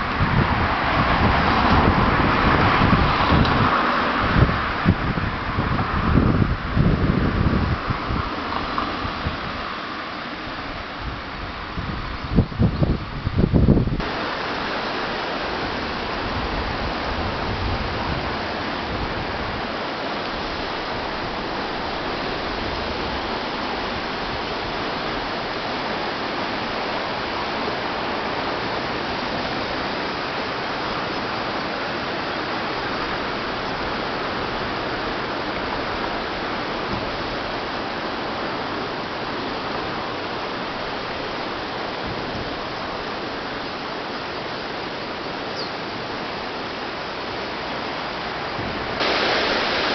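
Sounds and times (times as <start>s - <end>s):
river water rushing: 0.0s - 49.9s
wind rumble on microphone: 0.0s - 49.9s.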